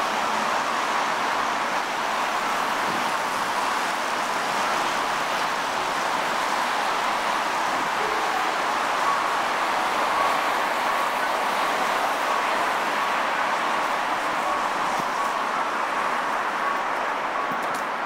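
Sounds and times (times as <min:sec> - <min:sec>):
road traffic hiss: 0:00.0 - 0:18.0.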